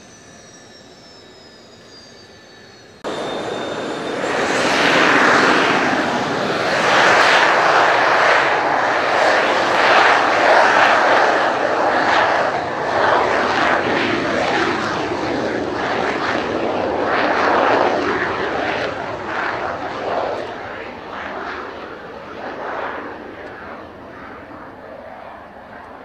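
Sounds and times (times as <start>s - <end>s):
jet engines at take-off power: 0.0s - 26.0s.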